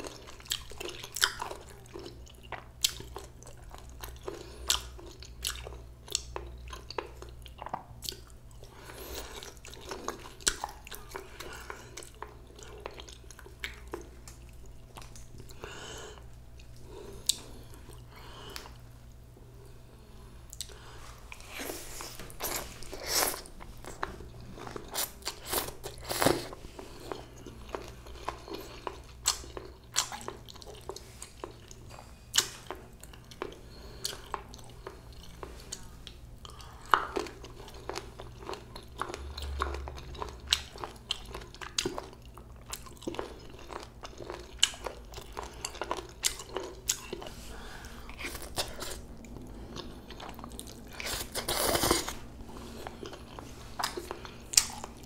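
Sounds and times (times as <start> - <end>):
person chewing and biting: 0.0 - 18.8, 20.5 - 55.0.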